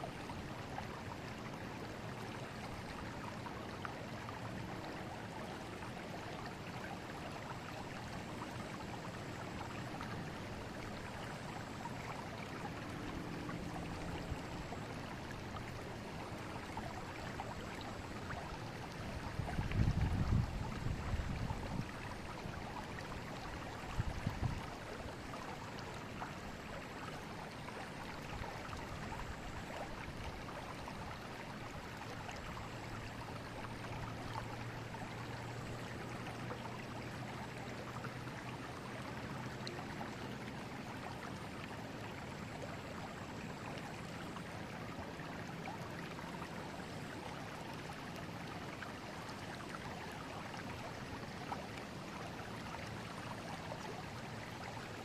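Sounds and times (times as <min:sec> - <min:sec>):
river water over stones: 0:00.0 - 0:55.0.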